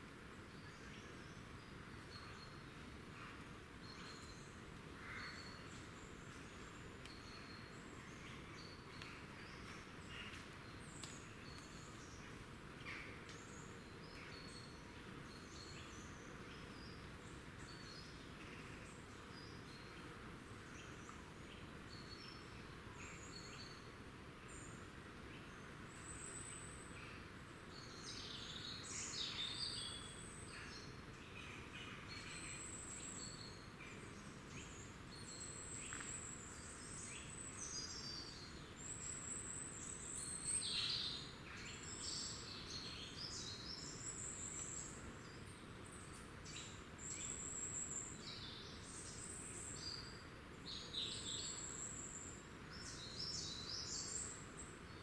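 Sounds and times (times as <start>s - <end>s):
songbirds chirping: 0.0s - 55.0s
steady background hiss: 0.0s - 55.0s.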